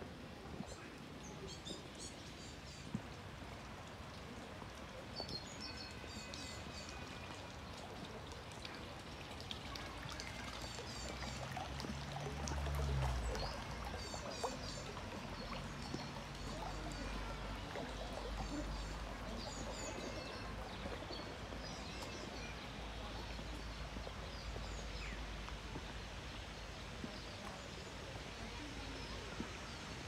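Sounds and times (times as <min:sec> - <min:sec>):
steady outdoor hiss: 0:00.0 - 0:30.0
fountain splashing into pool: 0:01.1 - 0:30.0.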